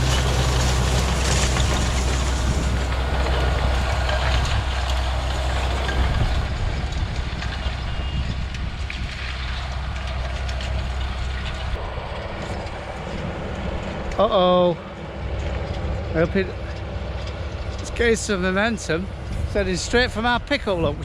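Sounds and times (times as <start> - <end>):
baler working: 0.0 - 21.0
tractor engine running: 0.0 - 21.0.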